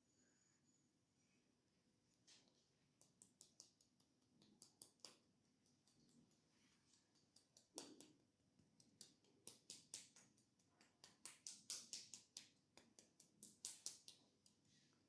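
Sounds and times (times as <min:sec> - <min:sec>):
soft clicks and taps of hands: 0:02.5 - 0:14.6.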